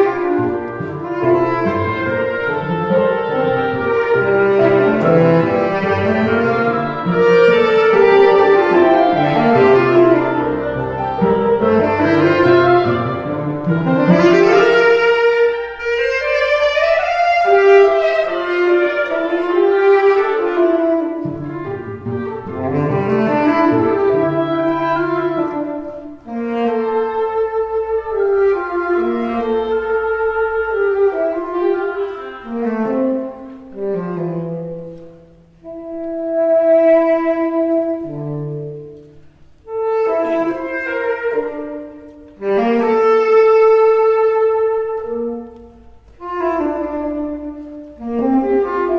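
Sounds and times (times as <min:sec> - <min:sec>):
strings and winds ensemble: 0:00.0 - 0:48.9
tenor saxophone playing: 0:00.0 - 0:48.9.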